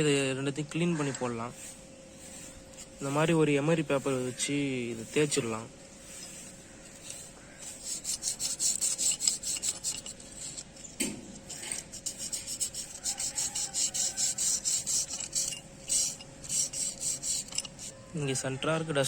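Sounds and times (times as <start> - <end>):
brake pad scraping on sandpaper: 1.0 - 19.0.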